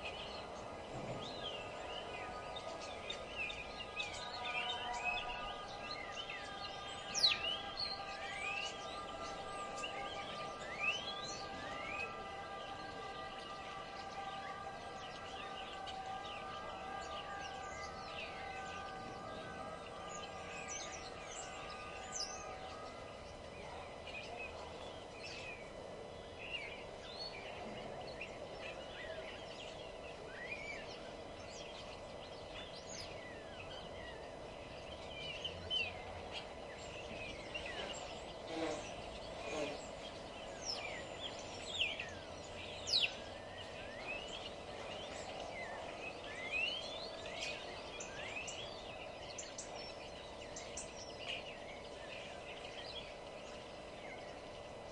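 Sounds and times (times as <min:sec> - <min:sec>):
songbirds chirping and singing: 0:00.0 - 0:54.9
steady low hum: 0:00.0 - 0:54.9.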